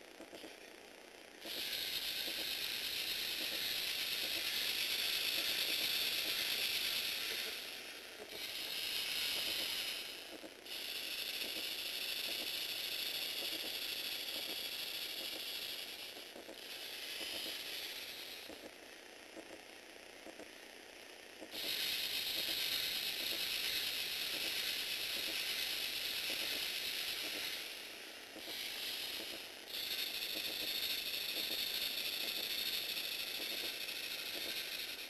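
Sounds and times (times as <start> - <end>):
motors whirring: 1.3 - 35.0
ratcheting clatter of gears: 1.4 - 20.6, 21.4 - 35.0.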